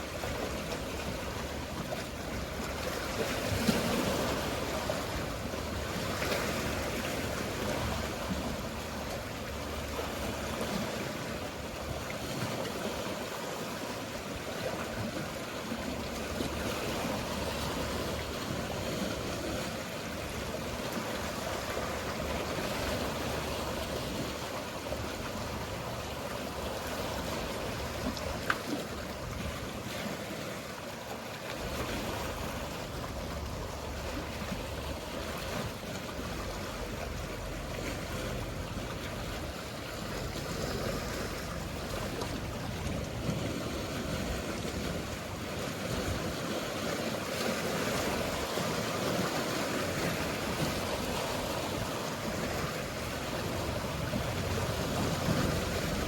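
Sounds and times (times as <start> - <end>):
sea water washing and lapping: 0.0 - 56.0.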